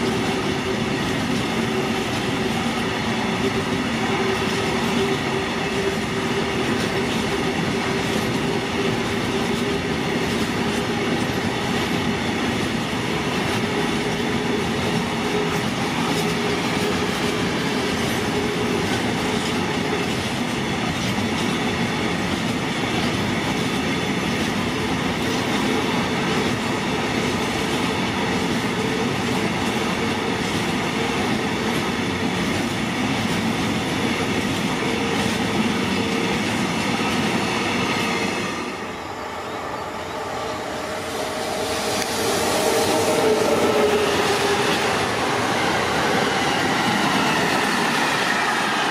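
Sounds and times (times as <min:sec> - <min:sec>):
freight train wheels clattering: 0:00.0 - 0:38.7, 0:40.9 - 0:48.9.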